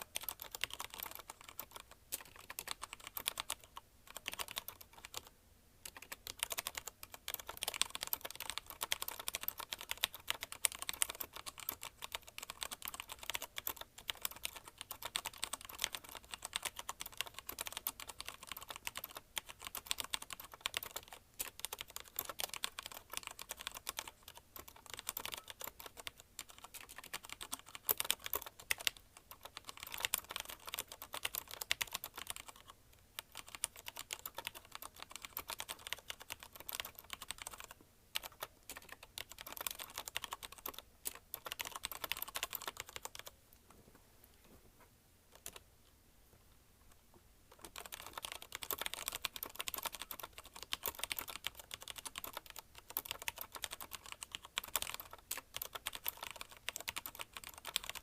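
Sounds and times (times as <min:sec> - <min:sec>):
mechanical keyboard typing: 0:00.0 - 0:43.4, 0:45.3 - 0:45.6, 0:47.5 - 0:58.0.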